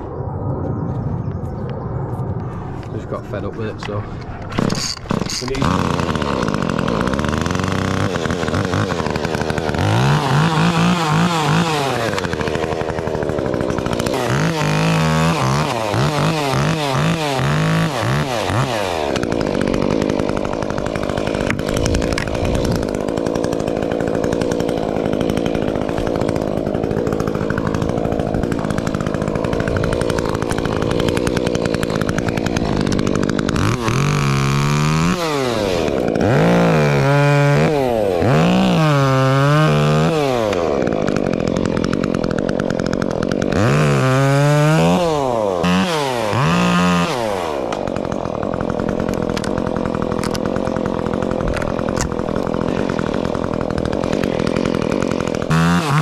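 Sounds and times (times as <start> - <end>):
chainsaw cutting wood: 3.8 - 56.0.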